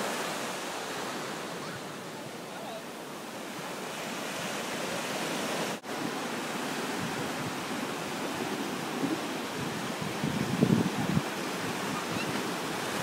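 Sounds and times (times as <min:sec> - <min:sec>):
surf washing up a beach: 0:00.0 - 0:13.0.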